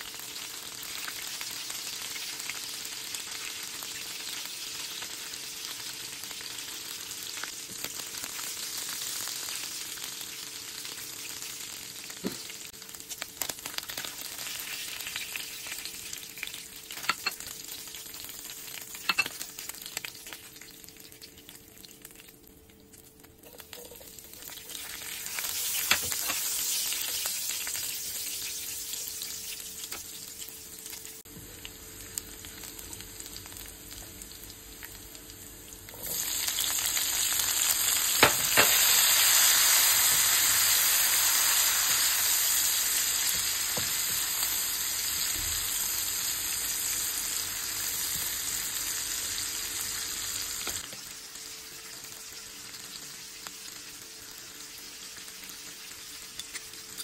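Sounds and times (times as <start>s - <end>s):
oil sizzling in frying pan: 0.0s - 57.0s.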